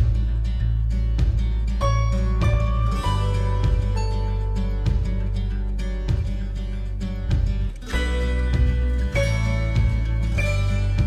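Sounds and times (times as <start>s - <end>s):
plucked string instrument music: 0.0s - 11.0s.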